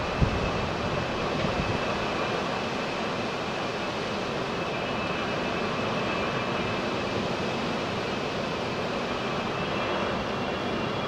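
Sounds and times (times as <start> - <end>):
jet engines rushing with whine: 0.0 - 11.0.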